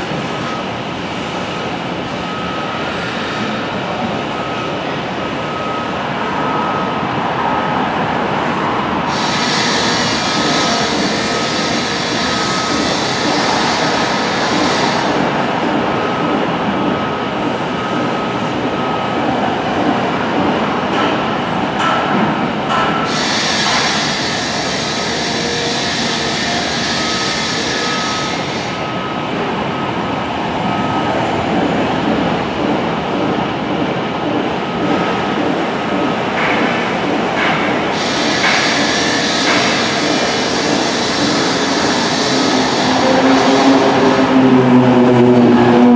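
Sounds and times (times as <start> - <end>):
train rumbling along track: 0.0 - 45.9.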